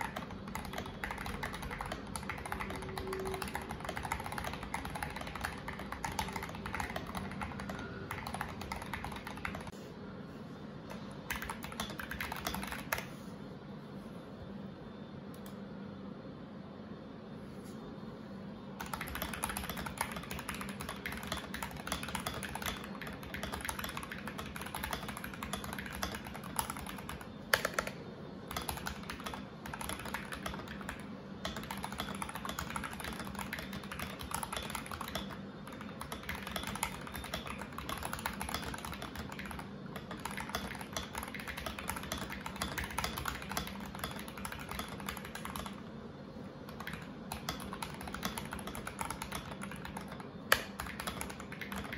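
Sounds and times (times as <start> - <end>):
typing on mechanical keyboard: 0.0 - 9.8, 10.9 - 13.1, 18.8 - 45.9, 46.6 - 51.9.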